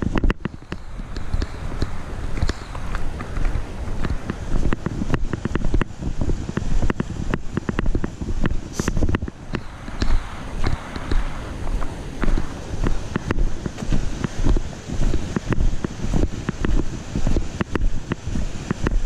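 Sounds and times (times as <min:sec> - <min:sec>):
creek running: 0:00.0 - 0:19.0
footsteps on gravel: 0:00.0 - 0:19.0
wind noise on microphone: 0:00.0 - 0:19.0.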